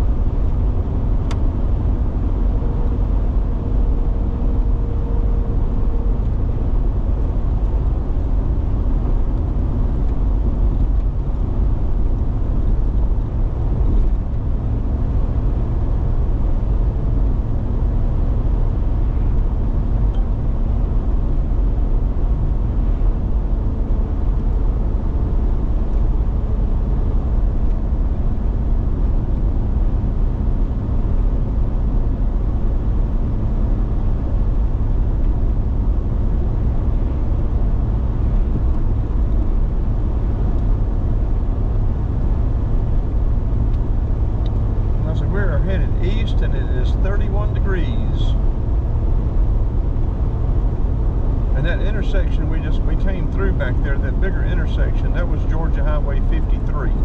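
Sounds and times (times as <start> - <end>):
car road rumble from inside: 0.0 - 57.0.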